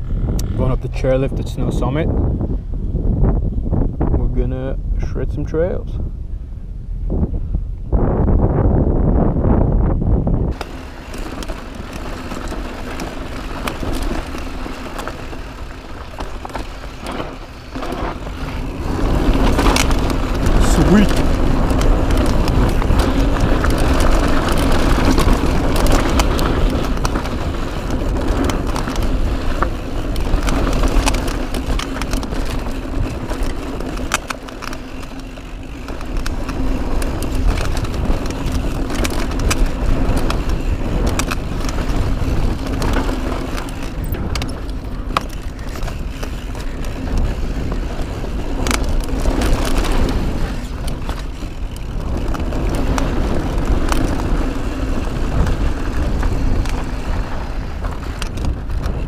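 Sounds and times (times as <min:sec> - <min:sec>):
wind rushing over microphone: 0:00.0 - 0:59.0
bike clicks and rattles: 0:10.4 - 0:59.0
tyres rolling on gravel: 0:10.5 - 0:59.0.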